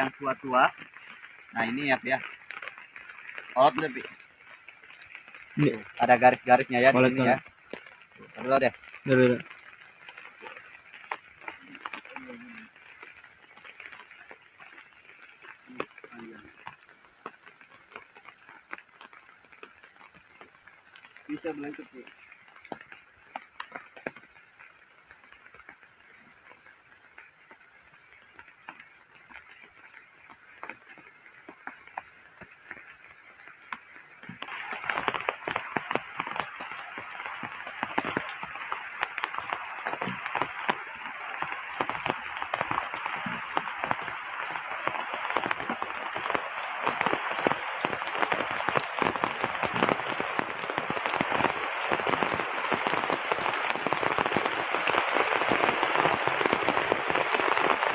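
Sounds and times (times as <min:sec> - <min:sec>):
heavy rain pattering: 0:00.0 - 0:57.9.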